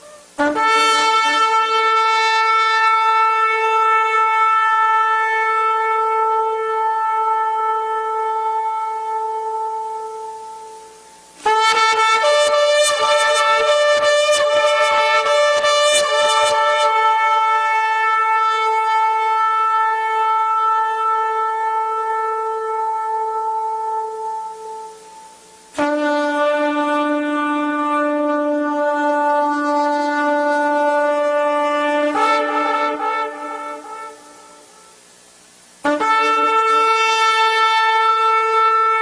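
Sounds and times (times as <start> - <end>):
shofar blasts: 0.0 - 35.2, 35.8 - 39.0.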